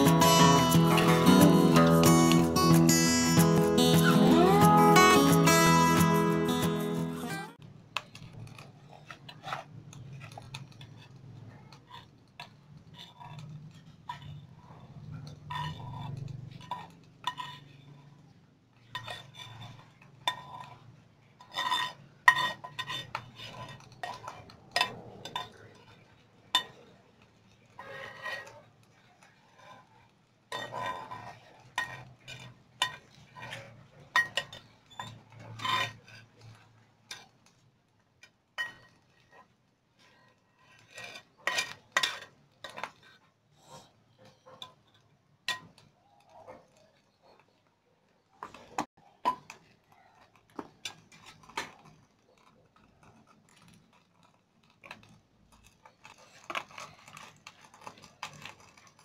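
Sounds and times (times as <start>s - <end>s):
metal spatula scraping frying pan: 0.0s - 7.0s, 8.1s - 37.6s, 38.2s - 44.8s, 54.8s - 59.0s.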